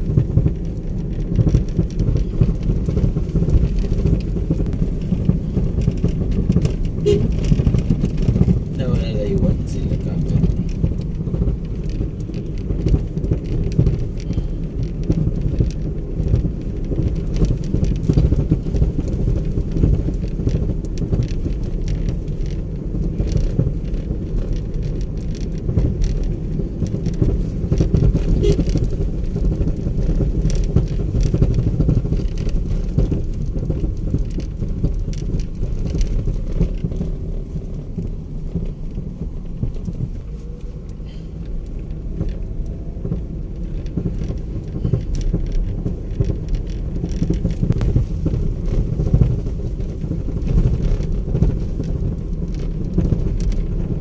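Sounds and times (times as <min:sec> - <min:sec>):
light ticks and rattles: 0:00.0 - 0:54.0
road rumble inside car: 0:00.0 - 0:54.0.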